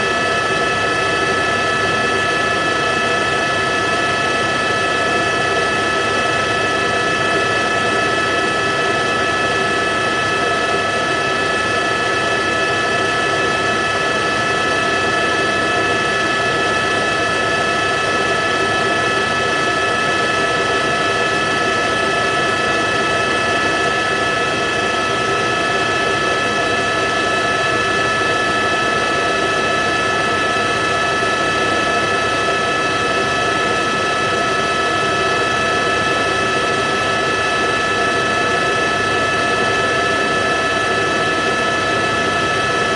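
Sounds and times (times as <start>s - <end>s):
helicopter drone: 0.0s - 42.9s.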